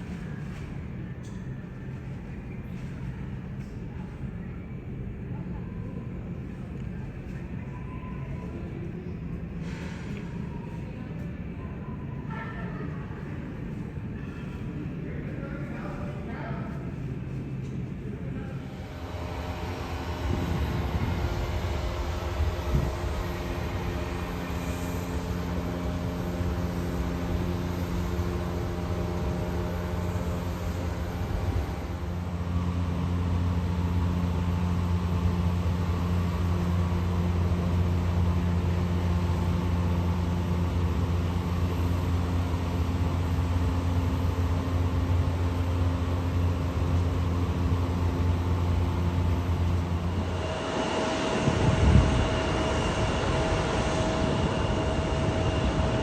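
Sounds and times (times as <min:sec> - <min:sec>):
low engine drone: 0:00.0 - 0:56.0.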